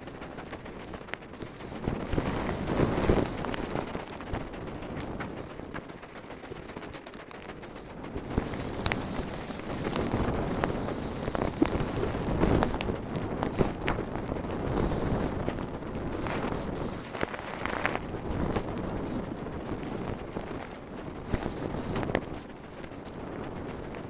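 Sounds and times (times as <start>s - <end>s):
bike clicks and rattles: 0.0s - 24.0s
bike tyres rolling on dirt: 0.0s - 24.0s.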